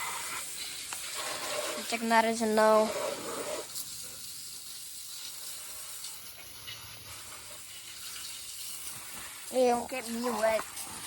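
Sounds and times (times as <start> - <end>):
water spraying hiss: 0.0 - 11.0.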